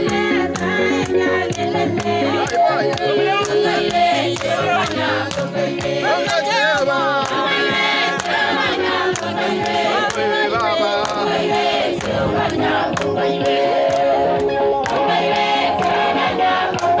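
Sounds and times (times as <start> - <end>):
hand clapping: 0.0 - 16.0, 16.7 - 17.0
crowd singing: 0.0 - 17.0.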